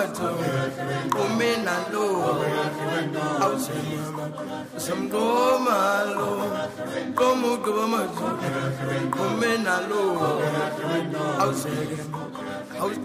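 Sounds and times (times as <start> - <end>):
music with chant-like singing: 0.0 - 13.0.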